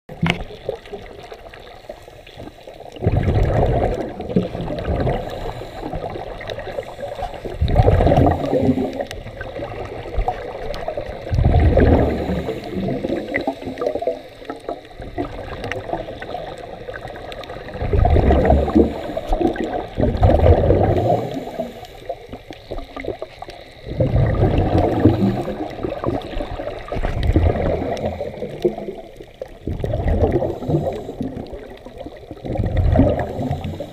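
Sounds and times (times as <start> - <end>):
quiet underwater hiss: 0.1 - 33.9
regulator exhaust bubbles: 3.0 - 14.3, 14.9 - 21.8, 23.0 - 29.0, 29.6 - 33.9.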